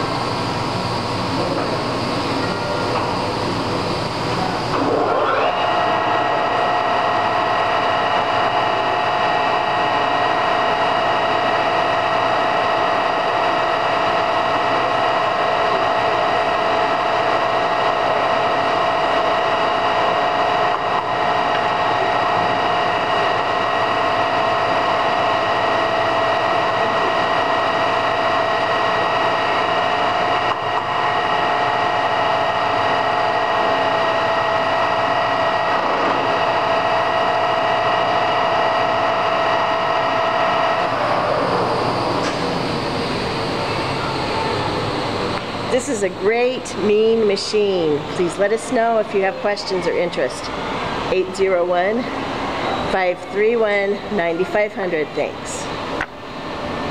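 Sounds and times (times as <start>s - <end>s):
lathe gearing whine: 0.0s - 56.9s.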